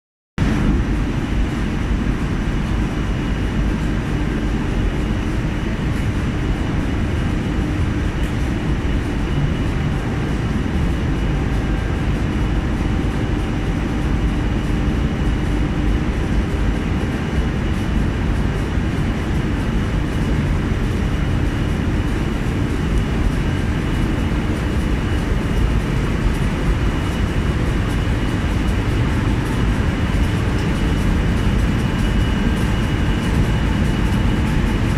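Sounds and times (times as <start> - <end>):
faint steady whines: 0.4 - 34.9.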